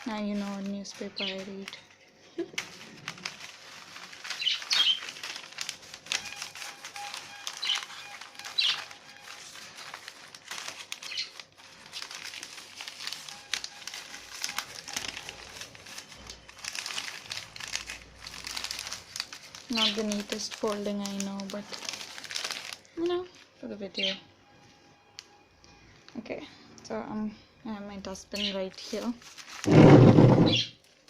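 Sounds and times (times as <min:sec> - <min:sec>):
newspaper rustling and crumpling: 0:00.0 - 0:23.5, 0:28.4 - 0:31.0.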